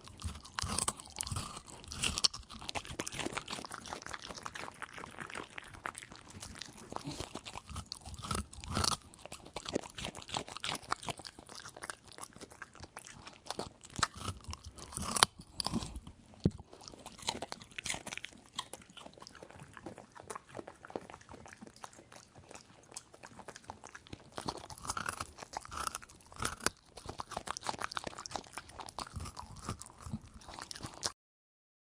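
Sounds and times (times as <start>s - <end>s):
dog crunching dry food: 0.0s - 31.2s.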